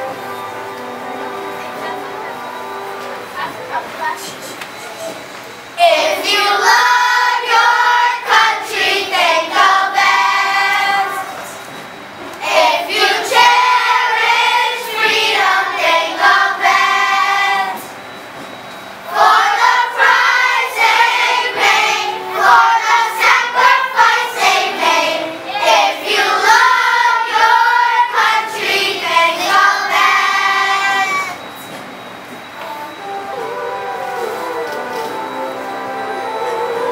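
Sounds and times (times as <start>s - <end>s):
children's choir singing: 0.0s - 4.5s, 5.1s - 36.9s.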